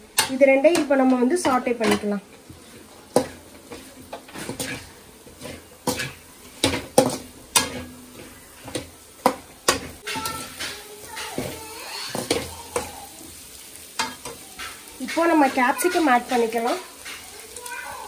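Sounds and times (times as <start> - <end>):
metal spatula scraping a pan: 0.1 - 18.0.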